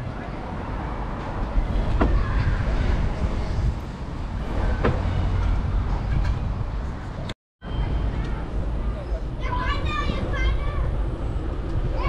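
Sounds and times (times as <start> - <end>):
wind on microphone: 0.0 - 7.3, 7.9 - 12.0
bicycle road noise: 0.0 - 12.0.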